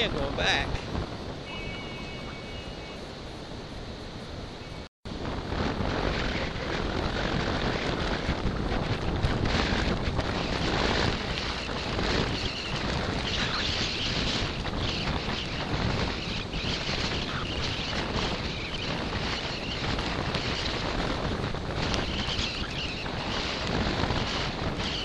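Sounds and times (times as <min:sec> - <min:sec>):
wind buffeting the microphone: 0:00.0 - 0:25.0.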